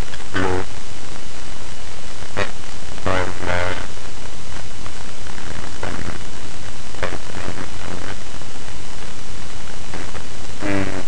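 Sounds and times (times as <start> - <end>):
faint muffled pitched sounds: 0.0 - 11.0
microphone hiss: 0.0 - 11.0.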